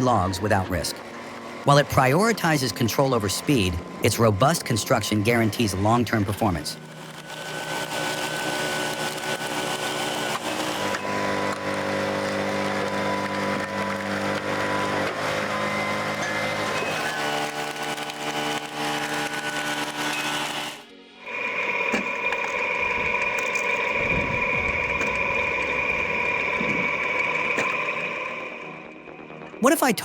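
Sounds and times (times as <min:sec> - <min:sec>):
log splitter motor droning: 0:00.0 - 0:29.7.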